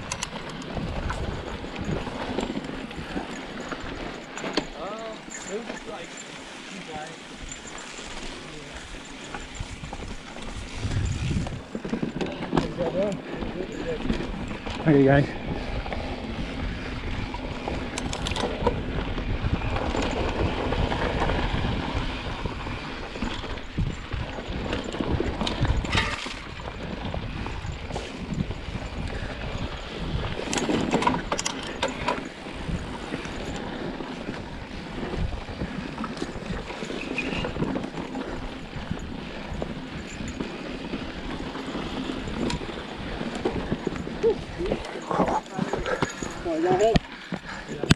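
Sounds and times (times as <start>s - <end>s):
bike rattling over bumps: 0.0s - 47.9s
bike tyres rolling on dirt: 0.0s - 47.9s.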